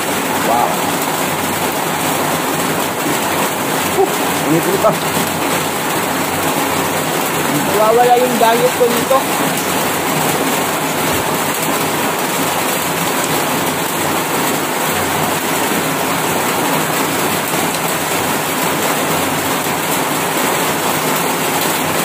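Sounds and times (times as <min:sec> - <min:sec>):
heavy rain on a metal roof: 0:00.0 - 0:22.0.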